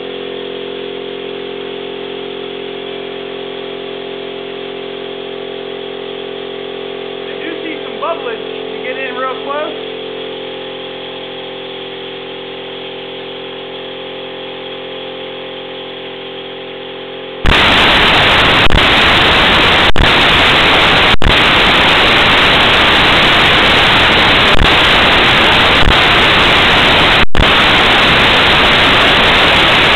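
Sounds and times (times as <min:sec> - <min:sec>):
loud static-like hiss: 0:00.0 - 0:29.9
vacuum pump motor humming: 0:00.0 - 0:29.9.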